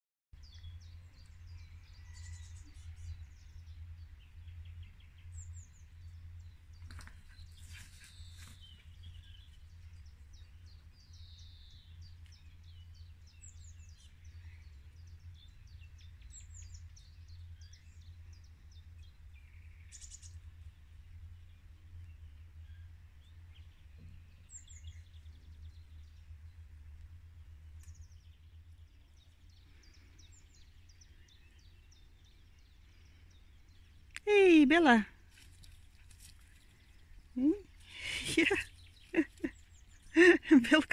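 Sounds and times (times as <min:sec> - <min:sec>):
songbirds singing and chirping: 0:00.4 - 0:40.9.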